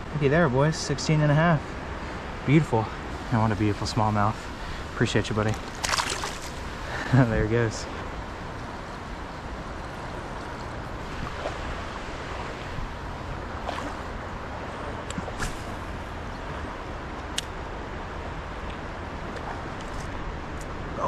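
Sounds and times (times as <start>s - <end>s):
river water flowing: 0.0s - 21.0s.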